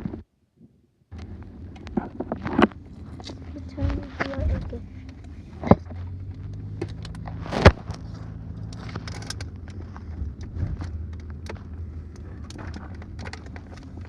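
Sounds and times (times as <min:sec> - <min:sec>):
car engine humming: 0:01.1 - 0:14.0.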